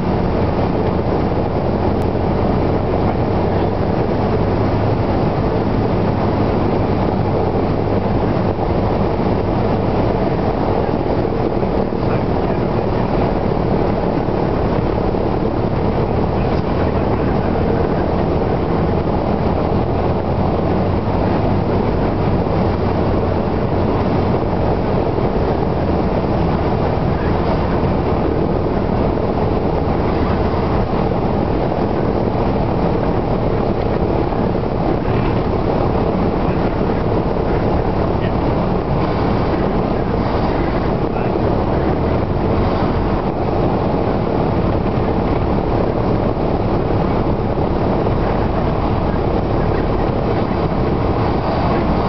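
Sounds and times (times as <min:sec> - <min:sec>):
propeller aircraft engine drone: 0:00.0 - 0:52.0.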